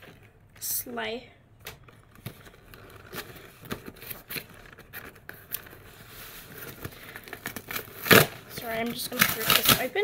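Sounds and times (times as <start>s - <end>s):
hands handling cardboard box: 1.6s - 9.9s.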